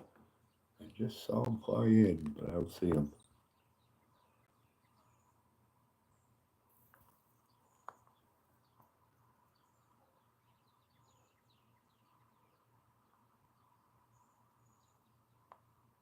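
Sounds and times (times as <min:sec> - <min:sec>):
faint bird chirps: 0:03.0 - 0:16.0.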